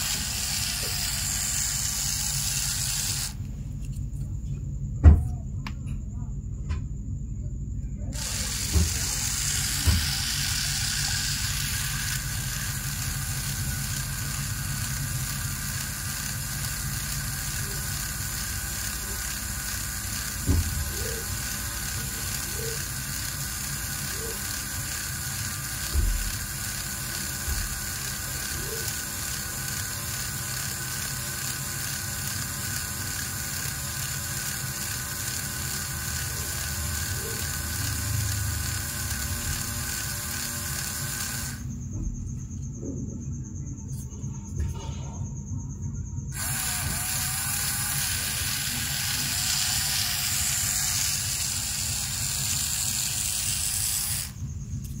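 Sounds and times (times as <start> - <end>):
small electric motor whirring: 0.0 - 4.1, 8.1 - 42.8, 46.3 - 55.0.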